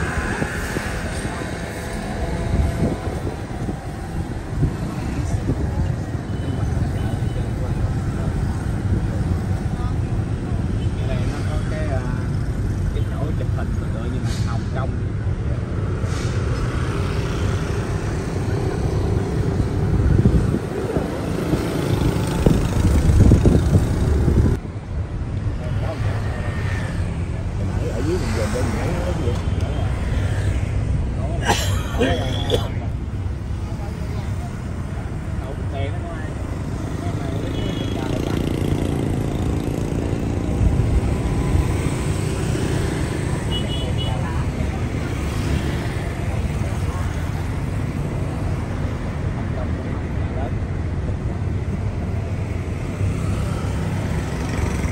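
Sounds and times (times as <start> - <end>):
road vehicle rumble: 0.0 - 54.9.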